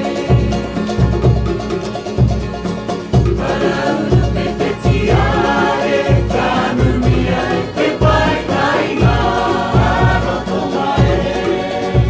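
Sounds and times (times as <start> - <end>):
group singing over a beat: 0.0 - 1.6, 3.2 - 12.0.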